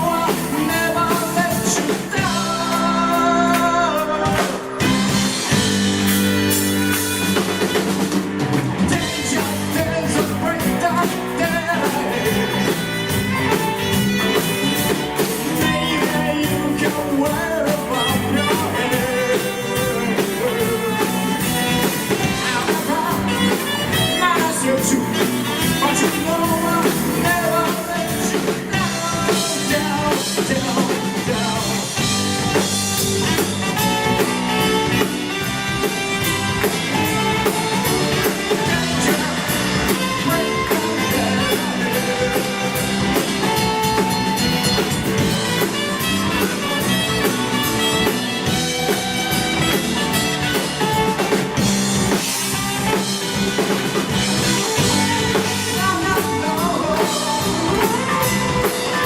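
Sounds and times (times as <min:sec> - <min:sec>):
person singing: 0:00.0 - 0:05.6, 0:08.8 - 0:59.0
rock band playing: 0:00.0 - 0:59.0.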